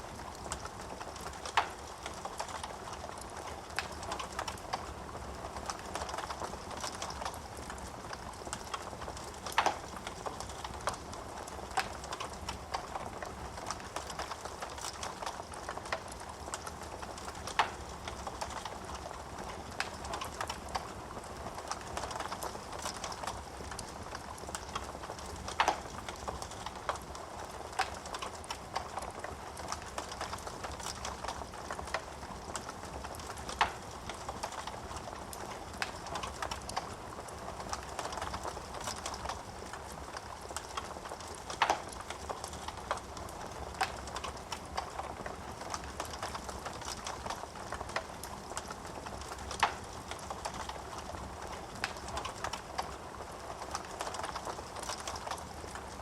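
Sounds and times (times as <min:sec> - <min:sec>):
wood fire hissing and crackling: 0:00.0 - 0:56.0.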